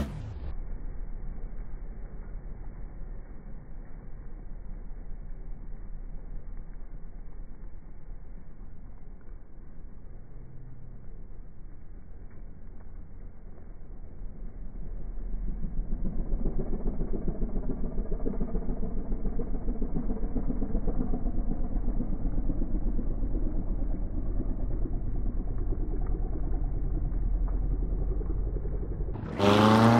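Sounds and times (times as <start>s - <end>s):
car engine at low revs: 0.0s - 29.9s.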